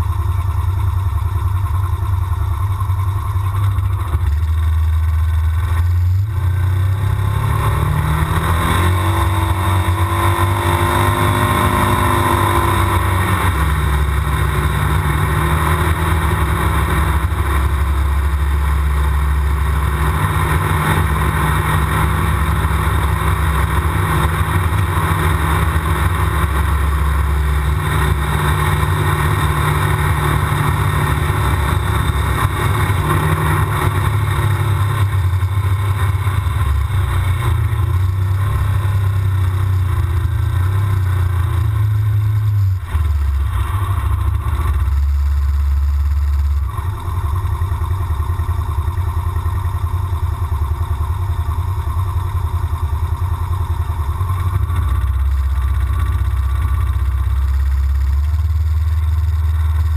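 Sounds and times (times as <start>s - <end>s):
utility vehicle engine running: 0.0s - 59.9s.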